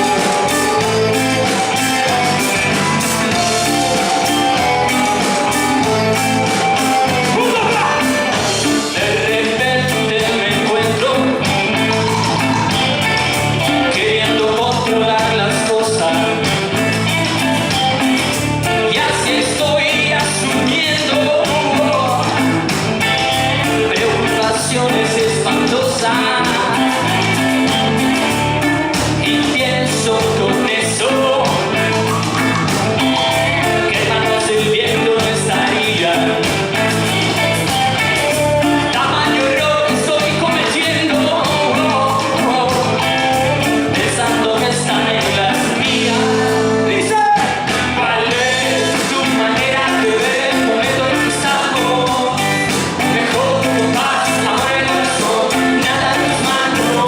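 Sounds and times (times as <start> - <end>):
upbeat band song with singing: 0.0 - 57.0.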